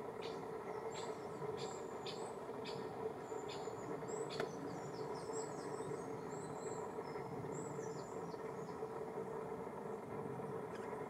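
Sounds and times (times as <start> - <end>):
songbirds chirping: 0.0 - 10.9
steady low hum: 0.0 - 11.0.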